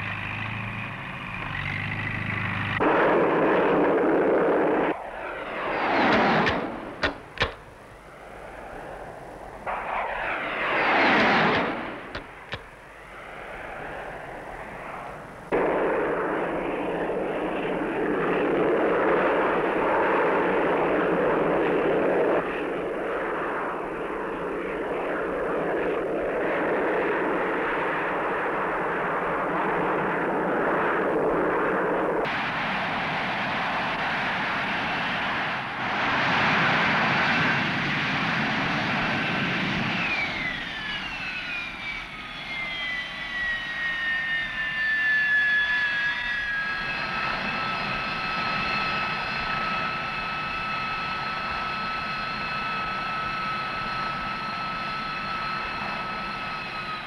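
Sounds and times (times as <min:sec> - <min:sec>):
high whine gliding down: 0:00.0 - 0:57.0
jet engine roar: 0:00.0 - 0:57.0.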